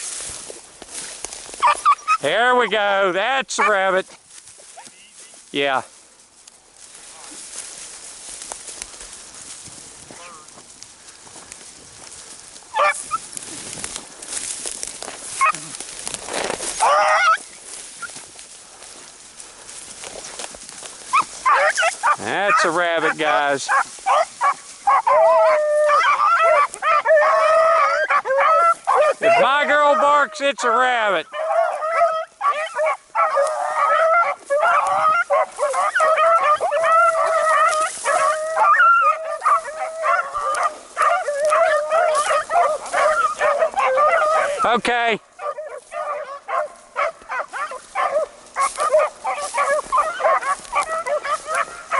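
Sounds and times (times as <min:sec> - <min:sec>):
hounds baying: 0:00.3 - 0:05.0, 0:07.2 - 0:51.9.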